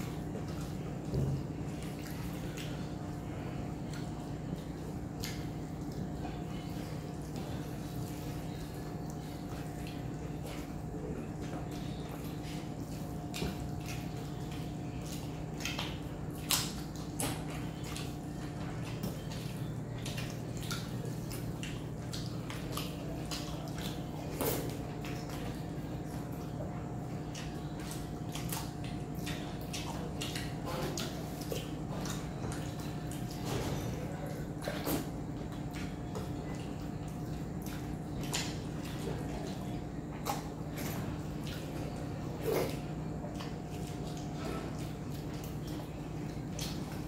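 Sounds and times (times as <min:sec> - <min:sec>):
chewing and lip smacks: 0:00.0 - 0:47.0
hands squishing rice on plates: 0:00.0 - 0:47.0
steady low hum: 0:00.0 - 0:47.0.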